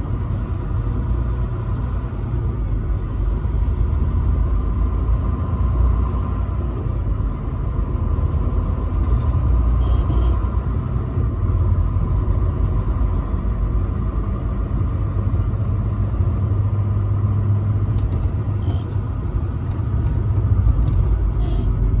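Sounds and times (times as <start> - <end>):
truck engine and road rumble: 0.0 - 22.0.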